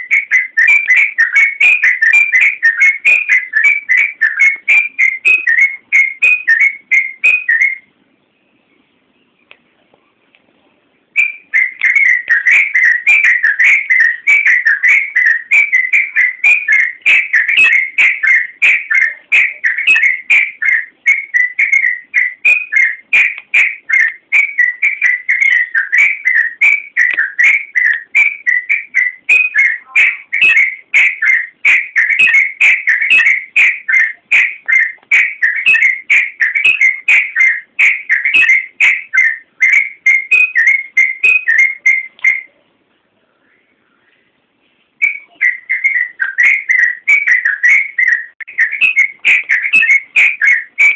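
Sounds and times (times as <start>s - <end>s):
bird singing rapid whistled notes: 0.0s - 9.5s, 11.2s - 42.6s, 45.0s - 50.9s.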